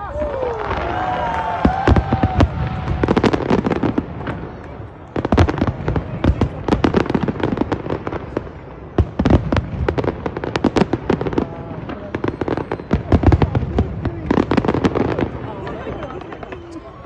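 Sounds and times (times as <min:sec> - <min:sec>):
fireworks banging and crackling: 0:00.0 - 0:17.0.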